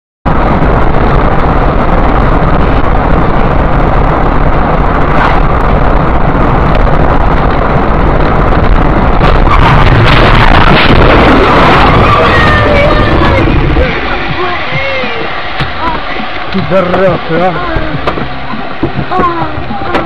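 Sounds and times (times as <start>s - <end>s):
car road and wind noise: 0.2s - 20.0s.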